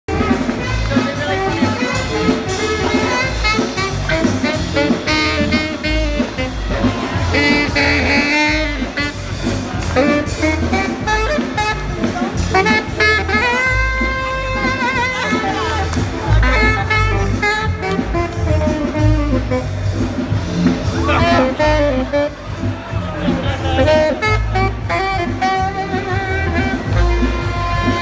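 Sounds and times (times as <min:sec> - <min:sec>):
saxophone playing quick lines: 0:00.1 - 0:28.0
swing jazz band beat: 0:00.1 - 0:28.0.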